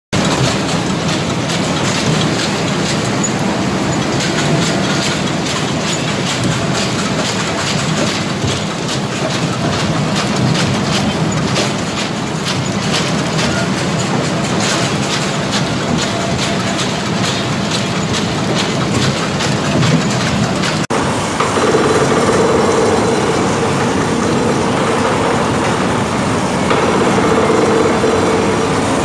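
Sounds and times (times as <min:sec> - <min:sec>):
screw conveyor rumbling: 0:00.1 - 0:29.0
kernels rattling against auger: 0:00.2 - 0:26.0.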